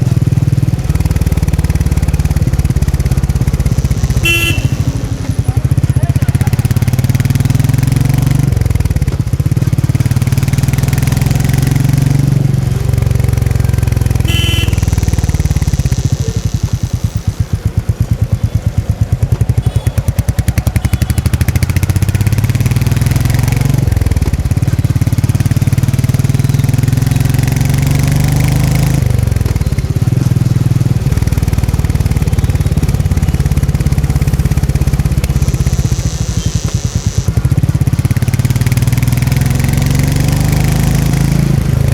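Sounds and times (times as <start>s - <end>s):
motorcycle engine and exhaust: 0.0s - 41.9s.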